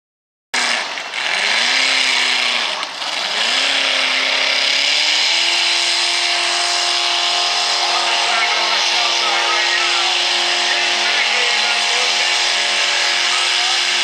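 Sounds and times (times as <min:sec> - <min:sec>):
tractor engine revving hard: 0:00.6 - 0:14.0.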